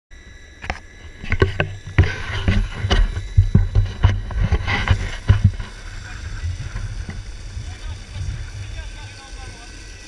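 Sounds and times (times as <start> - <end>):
skateboard wheels rumbling on asphalt: 1.4 - 10.0.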